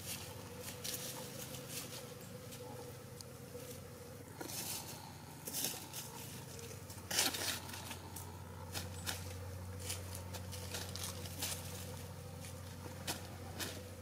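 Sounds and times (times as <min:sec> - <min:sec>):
chickens rustling dry leaves: 0:00.0 - 0:14.0
steady low hum: 0:00.0 - 0:14.0.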